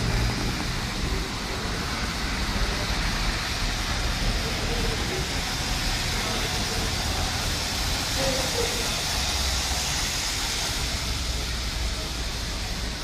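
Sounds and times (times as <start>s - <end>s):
metro train rumbling: 0.0s - 13.0s
wheels hissing on rail: 0.0s - 13.0s.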